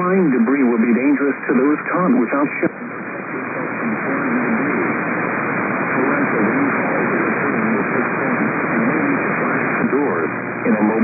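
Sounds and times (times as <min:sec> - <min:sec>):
faint voice under static: 0:00.0 - 0:11.0
radio static hiss: 0:00.0 - 0:11.0.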